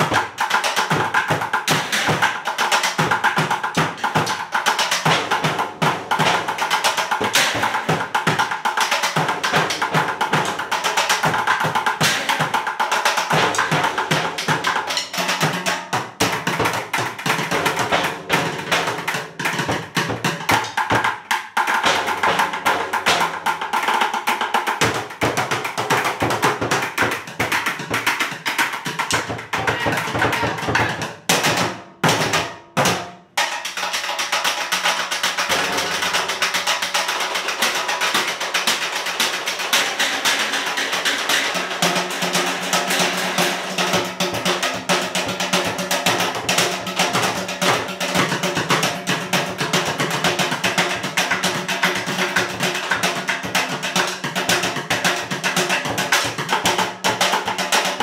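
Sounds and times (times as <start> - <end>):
bucket drumming: 0.0 - 58.0.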